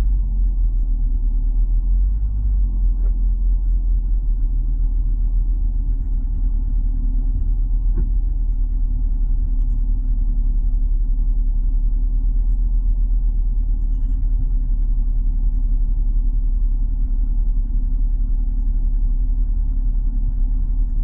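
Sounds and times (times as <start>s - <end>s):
car engine and tyres rumbling: 0.0s - 21.0s
faint steady hum: 0.0s - 21.0s.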